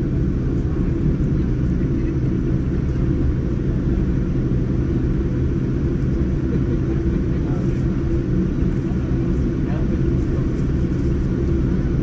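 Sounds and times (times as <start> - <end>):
jet engines and airflow in cabin: 0.0 - 12.0.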